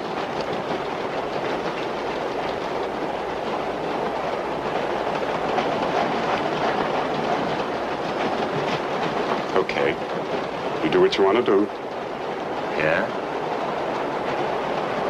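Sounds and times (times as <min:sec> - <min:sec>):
subway train wheels rumbling on rails: 0:00.0 - 0:15.0.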